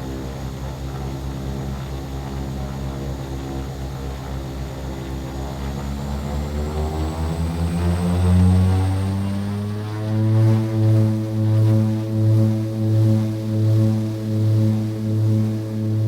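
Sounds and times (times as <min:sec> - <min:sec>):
aircraft engine throbbing: 0:00.0 - 0:16.0.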